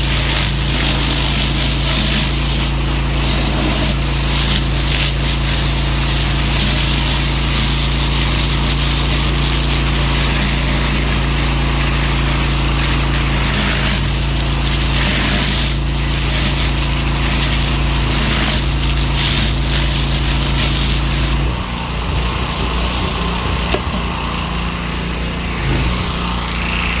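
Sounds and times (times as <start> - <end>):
water spray hiss: 0.0 - 24.8
pressure washer motor: 0.0 - 27.0.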